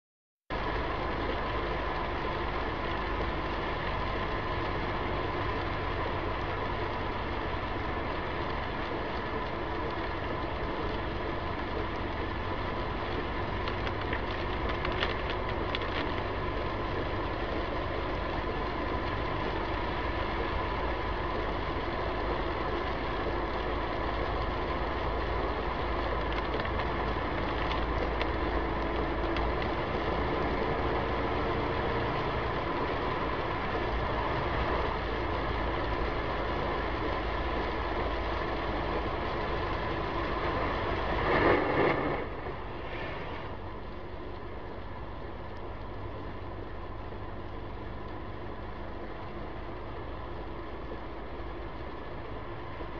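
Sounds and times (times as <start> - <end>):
car driving on wet road: 0.5 - 52.9.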